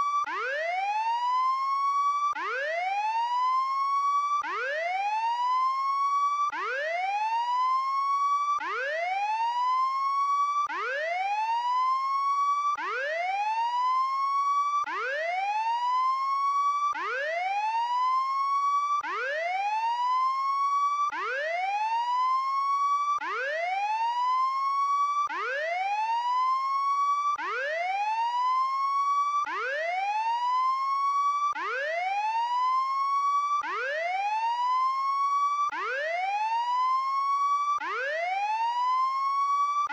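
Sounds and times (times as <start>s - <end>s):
alarm siren whooping: 0.0s - 39.9s.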